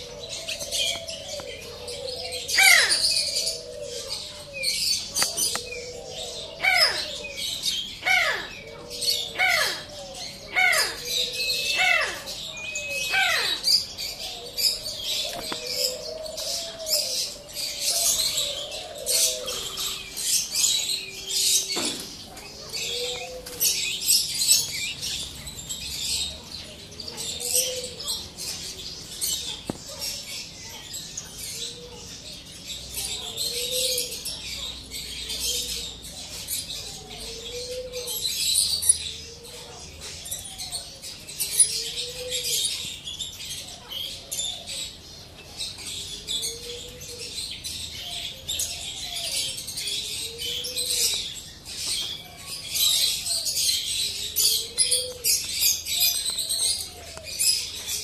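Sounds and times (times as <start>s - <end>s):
dove cooing: 0.0s - 25.4s, 26.0s - 30.4s, 31.4s - 42.9s, 46.2s - 58.0s
small birds chirping: 0.0s - 58.0s.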